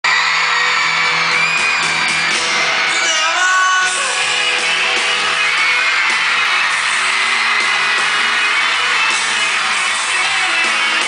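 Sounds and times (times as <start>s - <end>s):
crowd screaming and cheering: 0.0s - 11.0s
pop-rock band with electric guitars: 0.2s - 11.0s.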